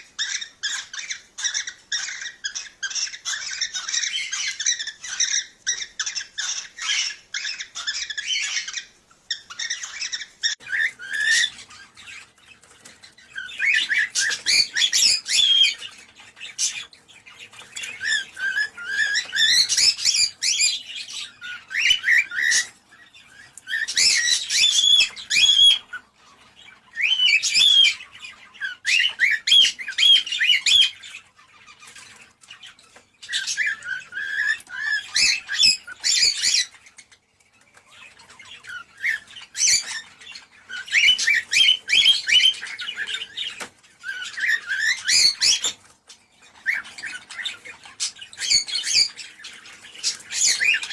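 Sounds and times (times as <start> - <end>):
cockatiels warbling and chirping: 0.0 - 50.9.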